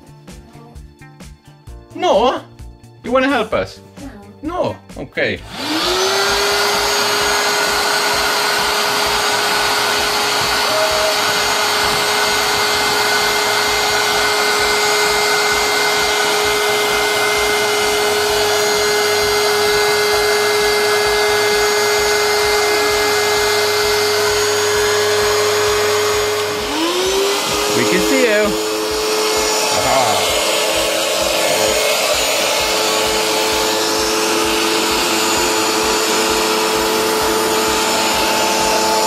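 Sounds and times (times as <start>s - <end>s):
electric air pump whining: 5.4s - 39.0s.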